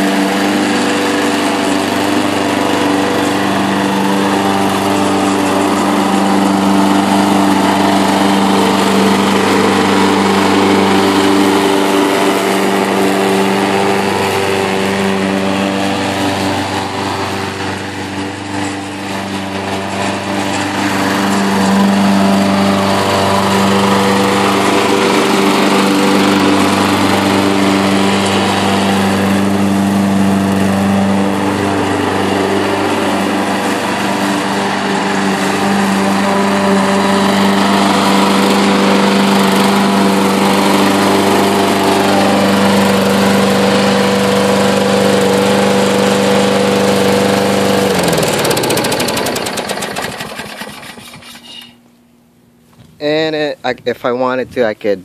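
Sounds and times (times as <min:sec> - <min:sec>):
lawn mower engine running: 0:00.0 - 0:54.1.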